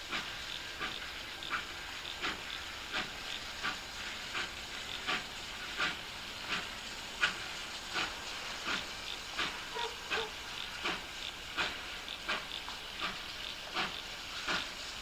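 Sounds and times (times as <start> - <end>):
steam hiss: 0.0 - 15.0
steam locomotive chuffing: 0.0 - 15.0.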